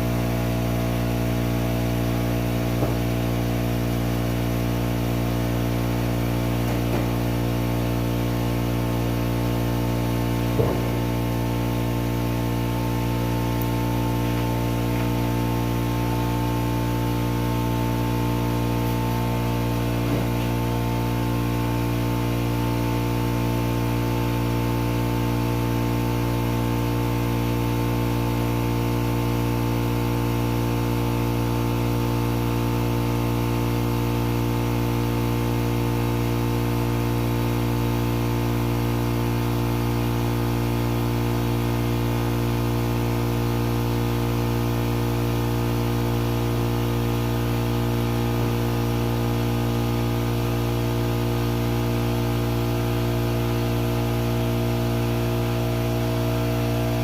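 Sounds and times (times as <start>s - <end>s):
air compressor humming: 0.0s - 57.0s.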